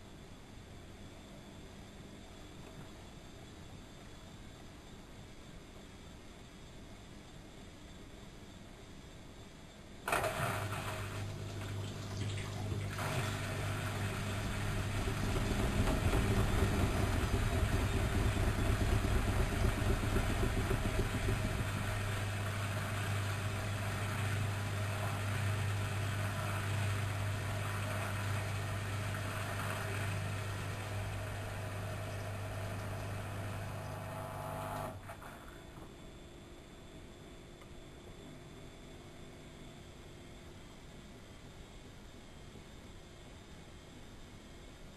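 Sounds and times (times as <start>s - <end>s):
washing machine electric hum: 0.0s - 44.9s.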